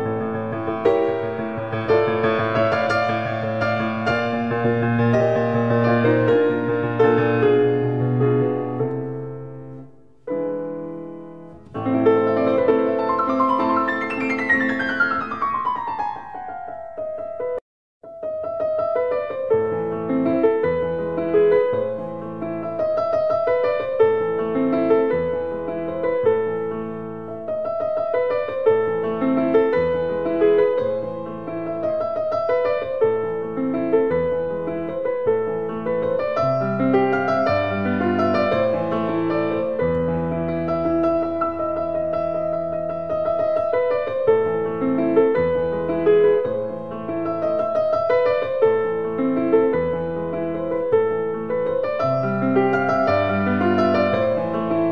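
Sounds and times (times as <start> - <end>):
gentle piano music: 0.0 - 54.9.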